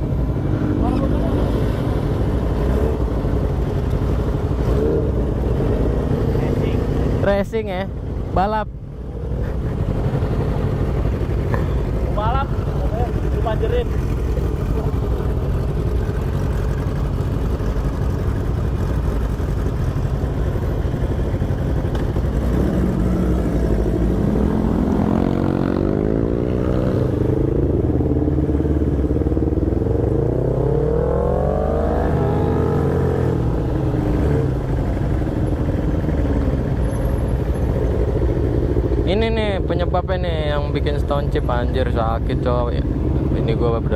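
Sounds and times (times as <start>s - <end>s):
motorcycle engine revving: 0.0s - 43.9s
wind and road rumble: 0.0s - 43.9s.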